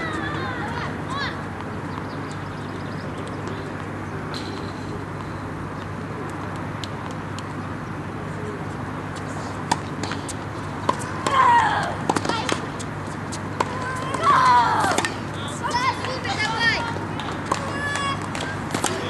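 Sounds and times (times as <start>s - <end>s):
low outdoor background hum: 0.0s - 19.0s.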